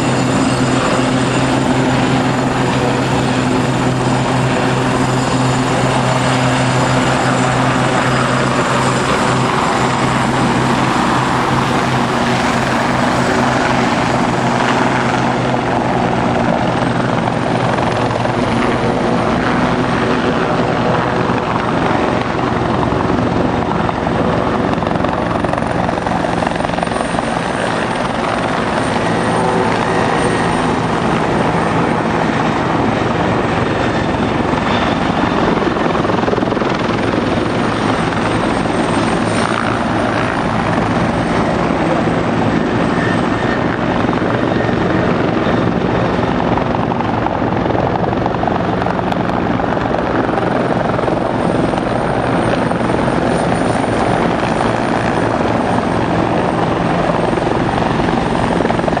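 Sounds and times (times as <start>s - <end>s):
helicopters flying low past: 0.0s - 59.0s
high turbine whine: 0.0s - 59.0s.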